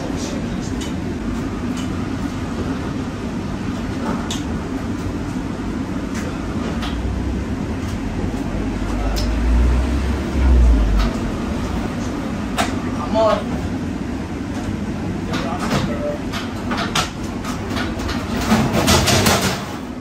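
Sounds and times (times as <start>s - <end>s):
low machinery rumble: 0.0s - 18.5s.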